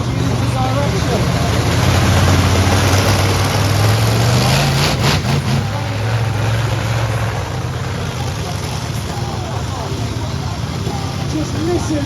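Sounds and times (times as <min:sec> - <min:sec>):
monster truck engines running: 0:00.0 - 0:12.0.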